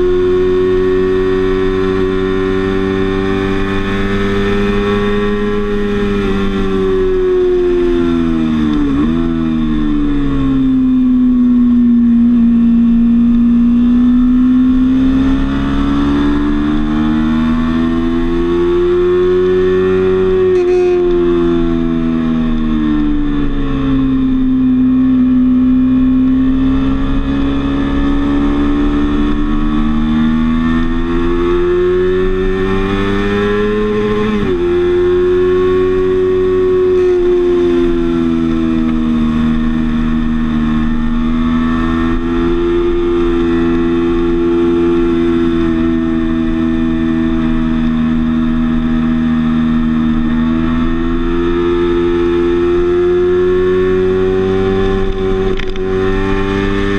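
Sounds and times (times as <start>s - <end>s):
motorcycle engine at speed: 0.0s - 56.9s.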